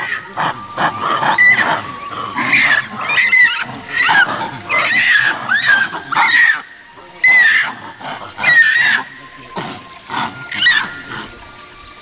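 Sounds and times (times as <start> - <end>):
monkeys screaming: 0.0 - 12.0.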